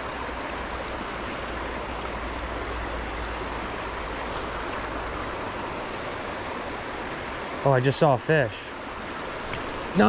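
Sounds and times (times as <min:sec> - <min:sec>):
creek flowing over stones: 0:00.0 - 0:10.0.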